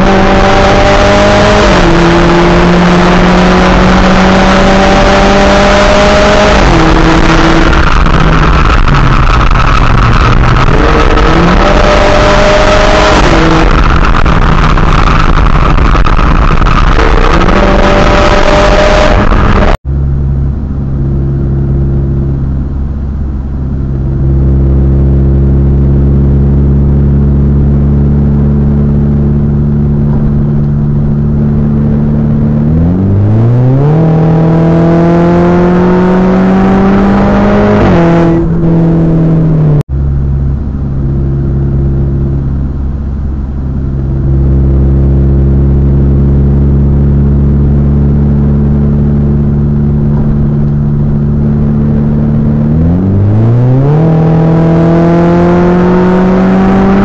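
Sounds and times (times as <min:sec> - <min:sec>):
turbo car engine from inside: 0:00.0 - 0:57.0.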